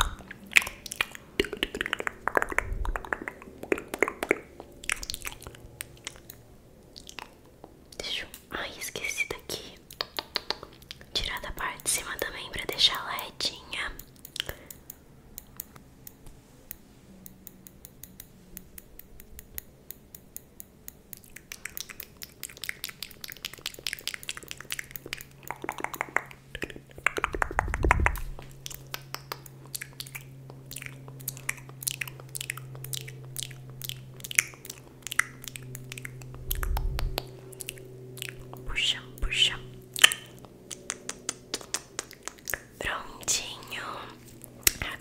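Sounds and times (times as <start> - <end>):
wet mouth clicks and smacks: 0.0 - 15.8, 20.9 - 45.0.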